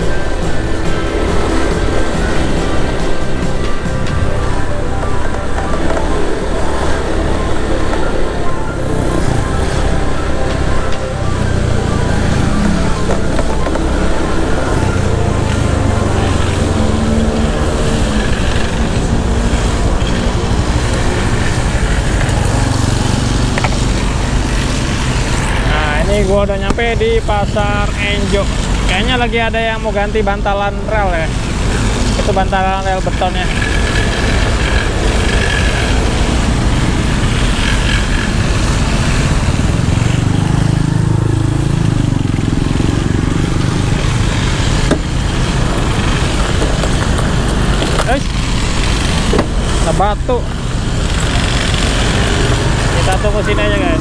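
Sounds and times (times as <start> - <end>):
motor scooter engine running: 0.0 - 54.0
street traffic: 0.0 - 54.0
wind and road noise: 0.0 - 54.0.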